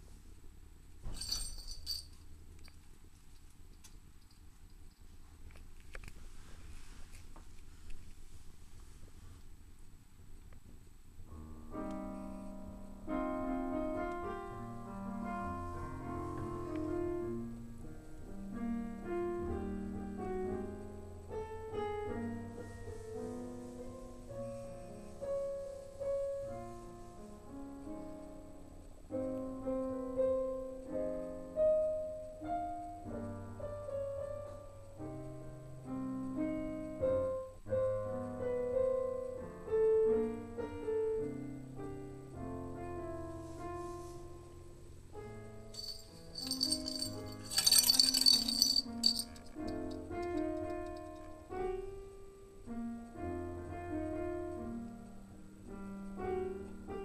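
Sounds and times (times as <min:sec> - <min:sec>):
slow piano melody: 0:11.3 - 0:57.0.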